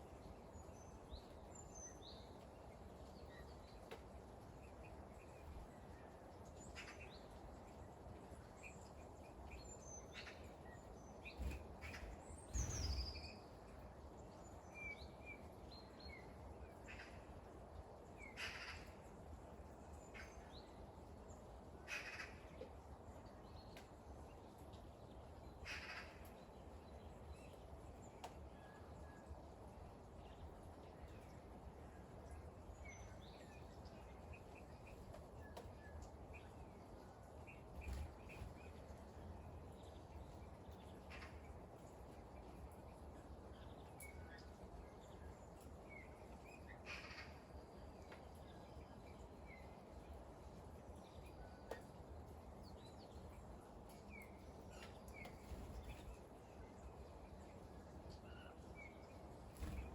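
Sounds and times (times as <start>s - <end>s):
small birds chirping: 0.0s - 17.5s, 18.2s - 59.9s
low outdoor hiss: 0.0s - 59.9s.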